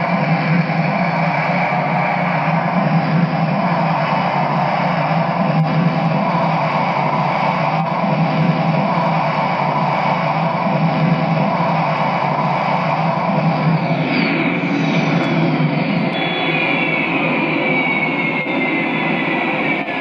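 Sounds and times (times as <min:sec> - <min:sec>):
turbine rushing whine: 0:00.0 - 0:20.0.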